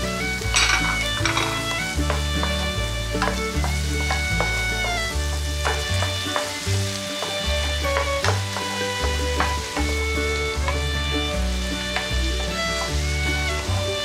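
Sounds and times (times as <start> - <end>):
background music with bass: 0.0 - 14.0
food sizzling in frying pan: 0.0 - 14.0
spatula scraping and tapping pan: 0.0 - 14.0.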